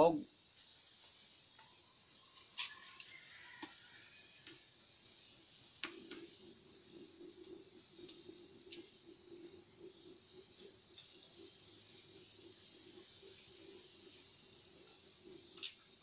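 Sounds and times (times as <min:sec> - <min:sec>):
cooking fire crackling: 0:00.0 - 0:16.0.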